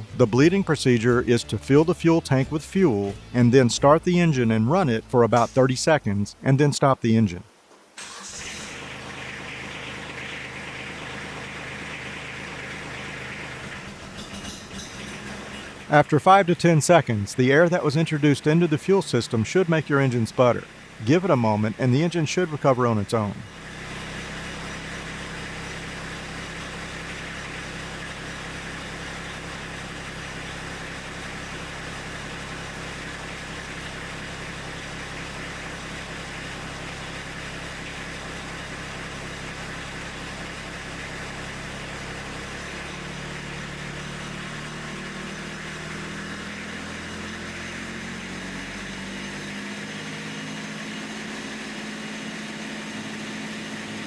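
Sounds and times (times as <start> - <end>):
diesel engine idling: 0.0 - 6.1, 8.0 - 54.0.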